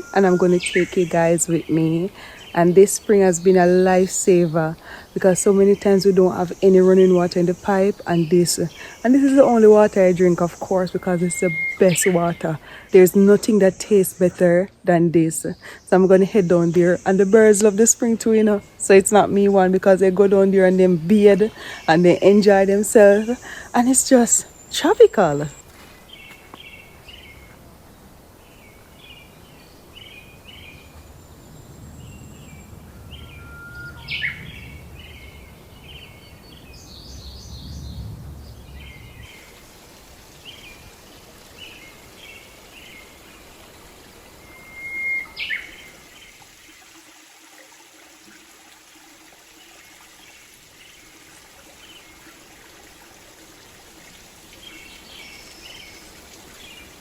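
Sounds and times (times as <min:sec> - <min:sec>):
birds chirping: 0:00.0 - 0:57.0
soft background hiss: 0:00.0 - 0:57.0.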